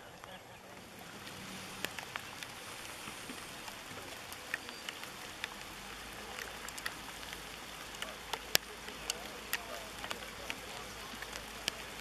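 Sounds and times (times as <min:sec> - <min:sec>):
paddles dipping in water: 0:00.0 - 0:12.0
steady hiss: 0:00.7 - 0:12.0.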